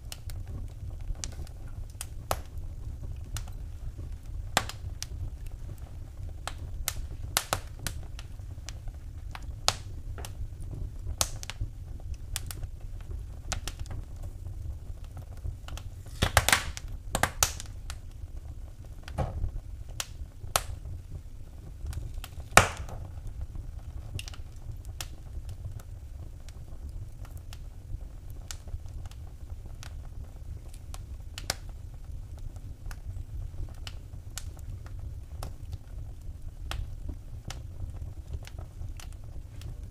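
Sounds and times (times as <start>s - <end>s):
fire crackling in fireplace: 0.0s - 39.9s
low steady rumble: 0.0s - 39.9s.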